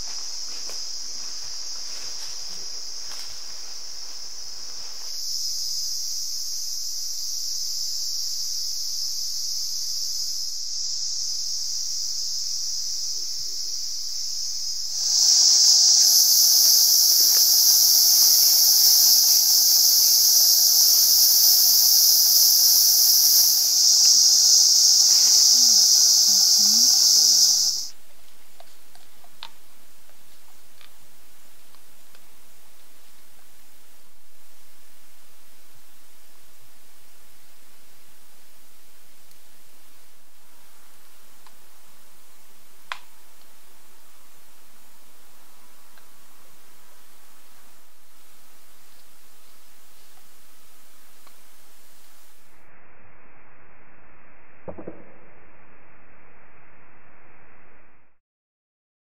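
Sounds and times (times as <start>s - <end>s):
forest insects buzzing: 0.0s - 52.6s.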